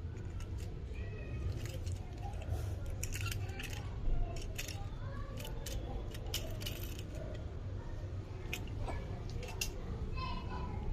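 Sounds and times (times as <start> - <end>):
plastic toys and packaging rattling: 0.0 - 10.4.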